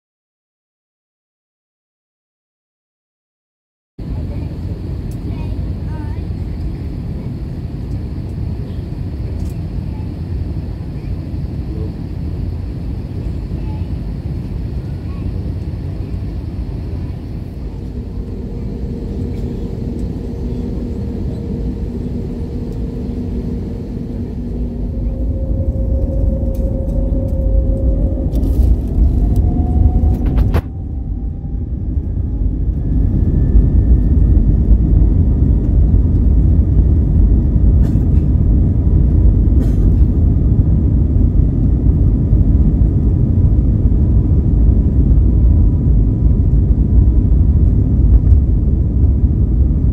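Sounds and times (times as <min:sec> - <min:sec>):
low rumble of takeoff roll: 0:04.0 - 0:49.9
jet engine whine spooling up: 0:04.1 - 0:49.9.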